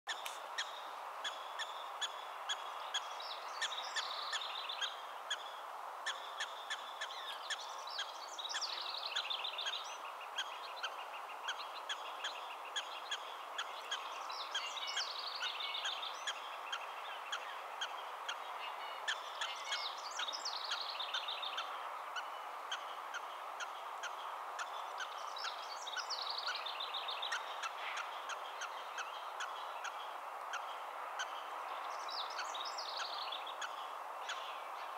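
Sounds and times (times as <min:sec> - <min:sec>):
background hiss: 0:00.1 - 0:34.9.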